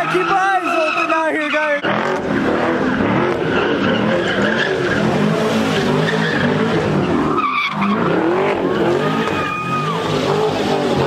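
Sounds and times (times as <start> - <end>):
car engine revving: 0.0 - 11.0
tyres screeching on pavement: 0.0 - 11.0.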